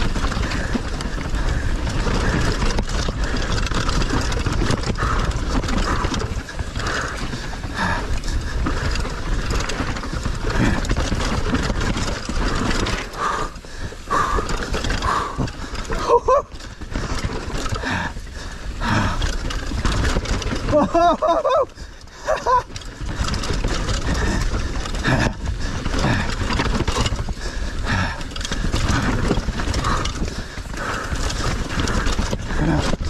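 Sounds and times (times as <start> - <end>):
bike chain and frame rattling: 0.0 - 33.0
tyres on dirt: 0.0 - 33.0.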